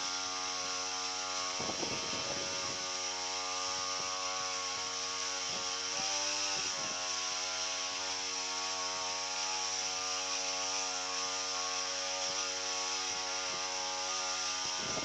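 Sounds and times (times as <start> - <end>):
small sprayer engine running: 0.0 - 15.0.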